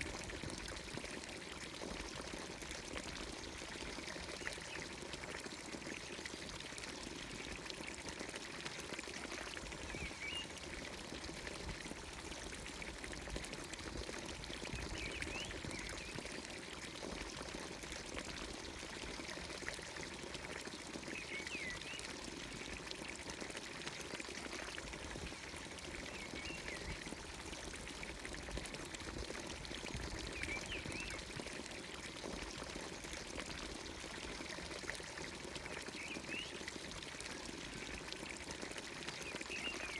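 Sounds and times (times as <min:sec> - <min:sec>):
fountain water pouring: 0:00.0 - 0:39.9.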